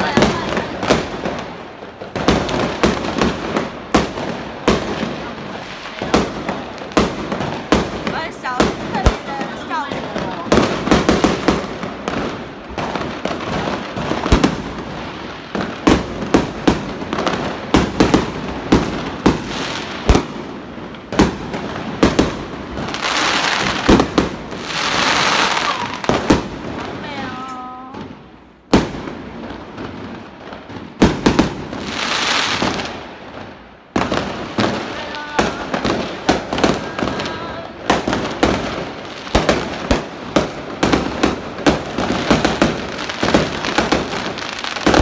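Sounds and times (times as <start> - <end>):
fireworks bangs and pops: 0.0 - 45.0
fireworks crackling hiss: 0.0 - 45.0.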